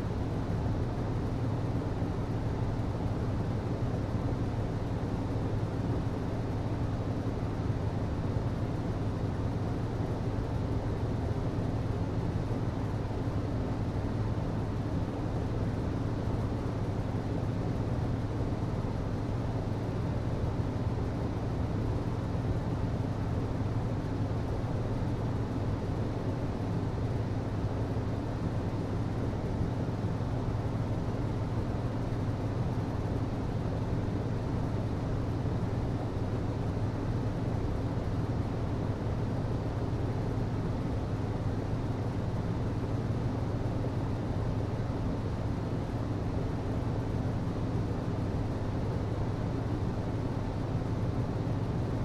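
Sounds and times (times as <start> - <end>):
hvac system humming: 0.0 - 52.0.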